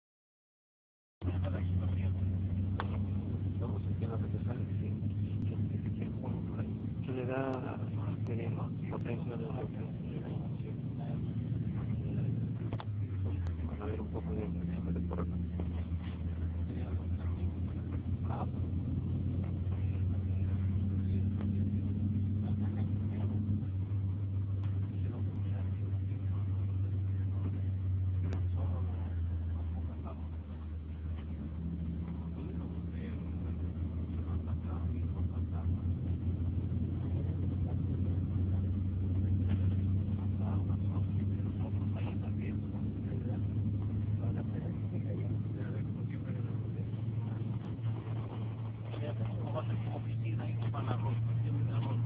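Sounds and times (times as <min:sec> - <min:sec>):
vehicle engine and road noise: 0:01.2 - 0:52.0.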